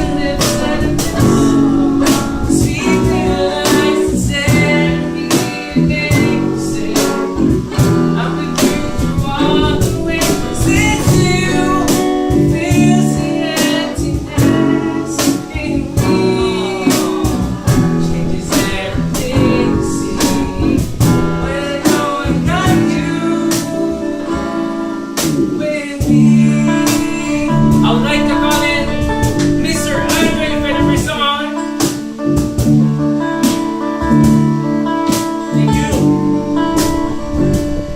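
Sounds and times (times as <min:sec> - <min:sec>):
drum hits: 0:00.0 - 0:22.9, 0:26.0 - 0:34.5
guitar: 0:00.0 - 0:37.9
person singing: 0:00.0 - 0:37.9.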